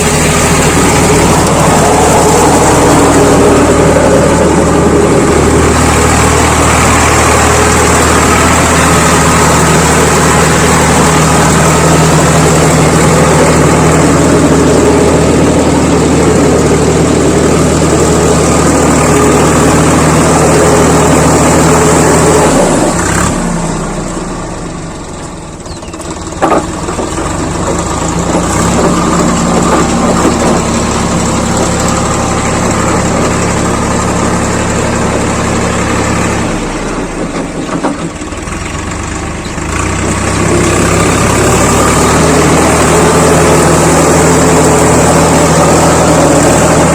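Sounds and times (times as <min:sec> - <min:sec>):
diesel tractor engine running: 0:00.0 - 0:46.9.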